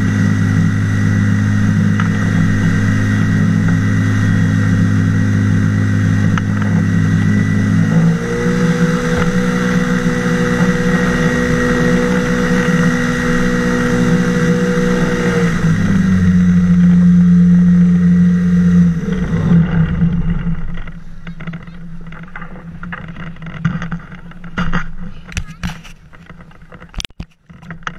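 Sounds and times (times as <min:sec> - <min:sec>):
aircraft engine and propeller: 0:00.0 - 0:26.9.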